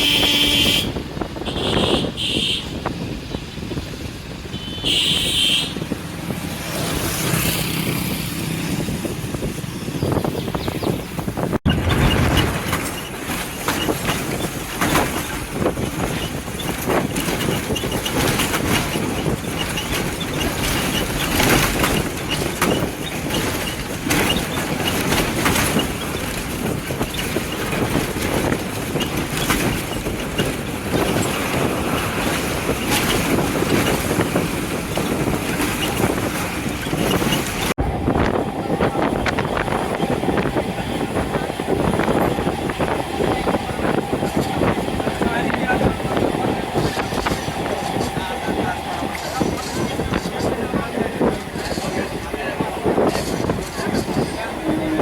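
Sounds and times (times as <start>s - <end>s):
vehicle interior rushing and rattling: 0.0s - 55.0s.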